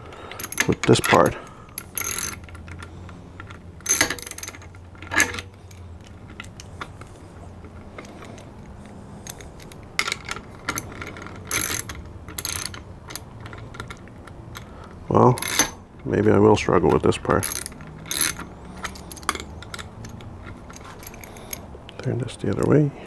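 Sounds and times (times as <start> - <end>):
ratchet wrench clicking: 0.0 - 16.4, 17.2 - 21.7
small metal clinks: 0.0 - 22.8.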